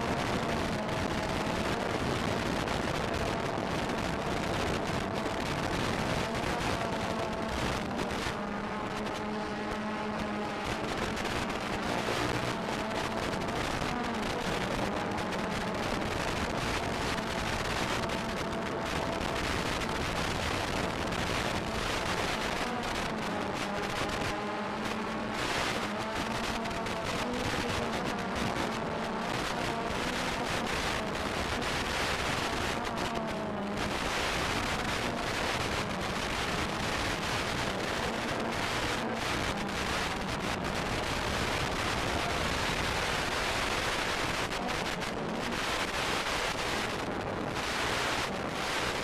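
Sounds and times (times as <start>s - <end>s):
wind rush and hiss: 0.0s - 49.0s.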